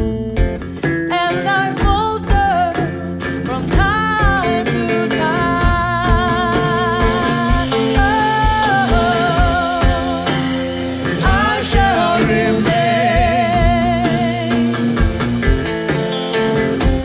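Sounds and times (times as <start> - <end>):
drum kit: 0.0 - 17.0
electric guitar: 0.0 - 17.0
woman singing with vibrato: 1.1 - 14.9.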